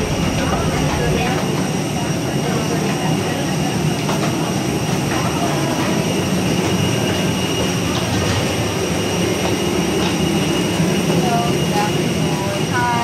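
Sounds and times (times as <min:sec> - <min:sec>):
aircraft machinery rumble and whine: 0:00.0 - 0:13.0.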